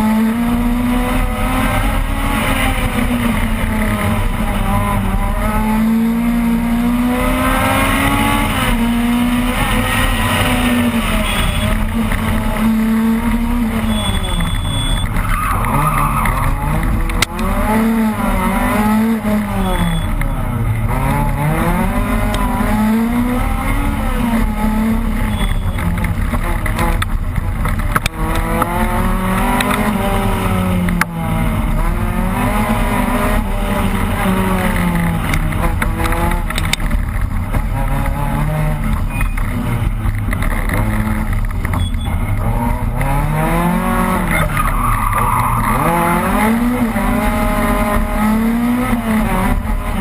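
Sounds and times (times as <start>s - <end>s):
rally car engine at high revs: 0.0s - 50.0s.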